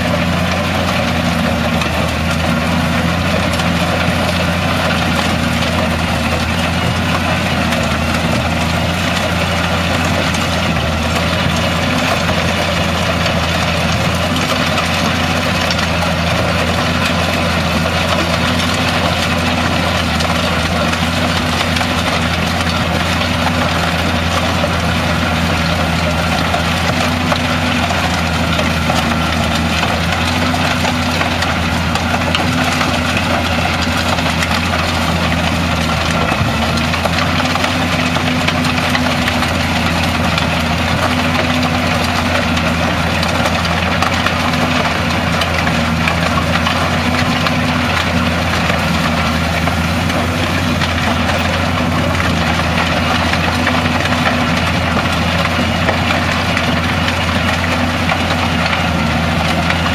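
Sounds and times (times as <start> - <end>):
stone crusher grinding: 0.0 - 59.9
tractor diesel engine running: 0.0 - 59.9.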